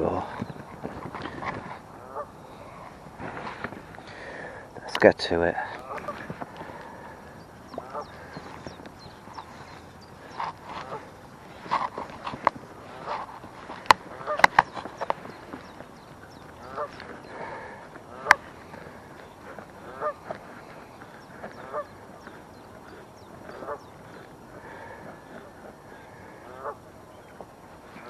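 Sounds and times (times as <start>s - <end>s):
waterfowl honking: 0.2s - 3.0s, 5.8s - 28.0s.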